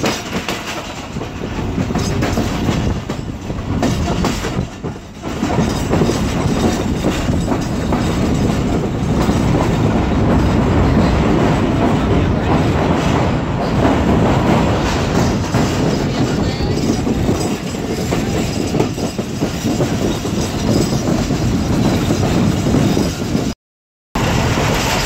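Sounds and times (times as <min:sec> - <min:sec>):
train wheels rumbling and clattering: 0:00.0 - 0:23.6, 0:24.2 - 0:25.0.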